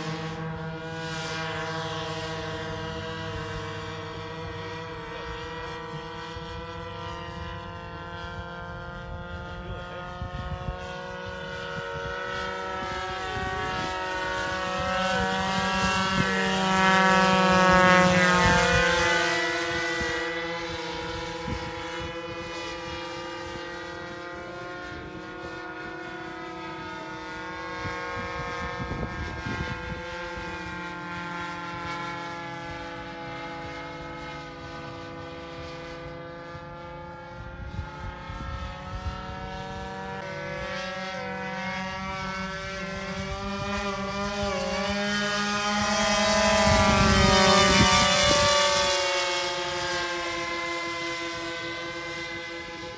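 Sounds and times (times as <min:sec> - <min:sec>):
model plane engines droning: 0:00.0 - 0:52.9.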